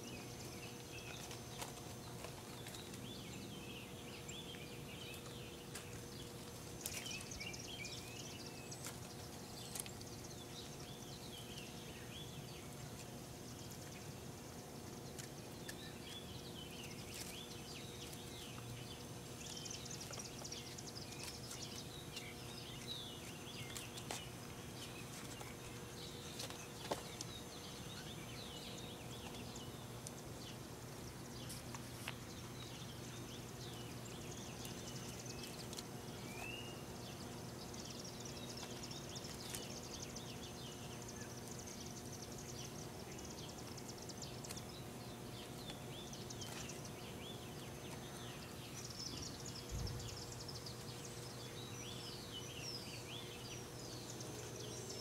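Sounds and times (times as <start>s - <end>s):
small birds chirping: 0.0s - 55.0s
steady low hum: 0.0s - 55.0s.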